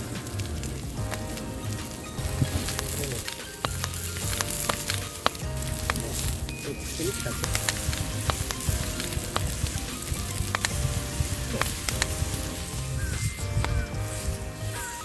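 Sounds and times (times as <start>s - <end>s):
faint background music: 0.0s - 15.0s
fat popping and spitting: 0.0s - 15.0s
steak sizzling on griddle: 0.0s - 15.0s.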